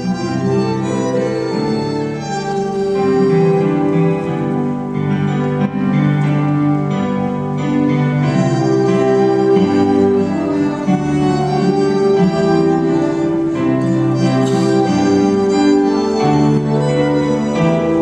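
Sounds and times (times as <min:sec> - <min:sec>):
electric keyboard: 0:00.0 - 0:18.0
violins: 0:00.0 - 0:18.0.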